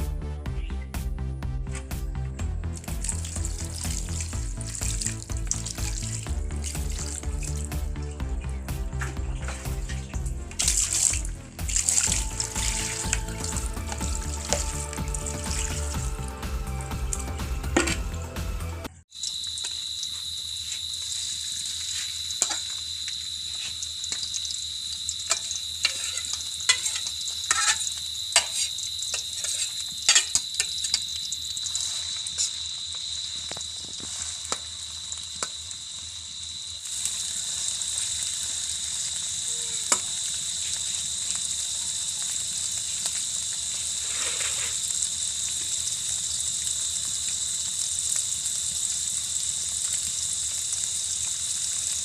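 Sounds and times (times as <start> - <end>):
oil popping and crackling: 2.6 - 8.2, 8.8 - 18.1, 19.2 - 52.0
fish frying in hot oil: 2.8 - 7.9, 8.8 - 18.1, 19.1 - 52.0.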